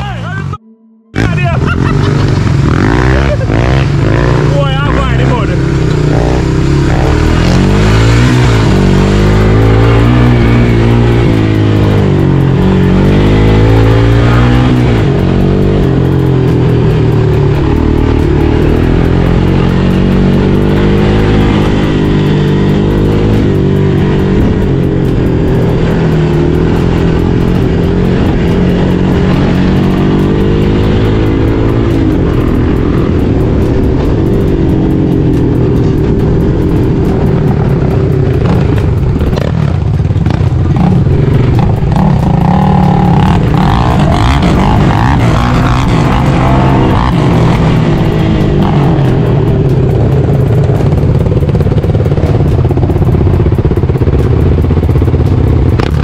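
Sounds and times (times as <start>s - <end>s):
music playing: 0.0s - 49.9s
vehicle engine running: 0.0s - 56.0s.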